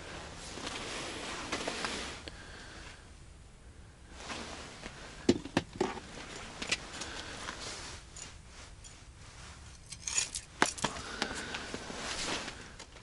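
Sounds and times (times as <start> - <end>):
winter clothing rustling: 0.0 - 2.8, 4.1 - 5.3, 6.0 - 13.0.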